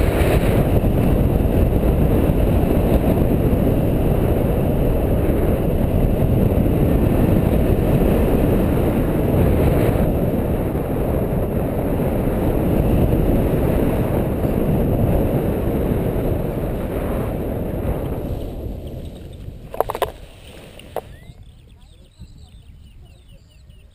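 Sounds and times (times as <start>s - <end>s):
wind rushing over microphone: 0.0s - 23.9s.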